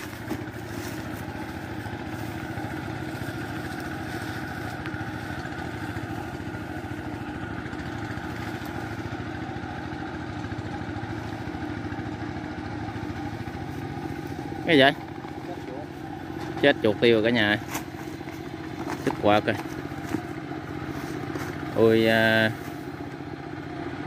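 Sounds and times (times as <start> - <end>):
small engine droning: 0.0 - 24.0.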